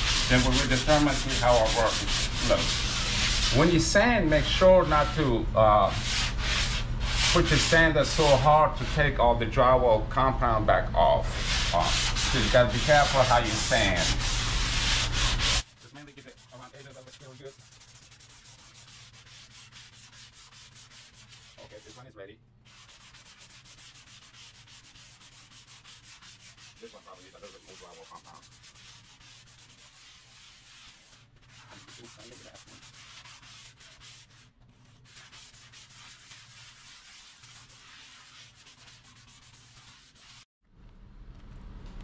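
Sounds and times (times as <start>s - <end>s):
sanding block rubbing drywall: 0.0s - 9.3s, 11.3s - 22.1s, 22.7s - 40.5s.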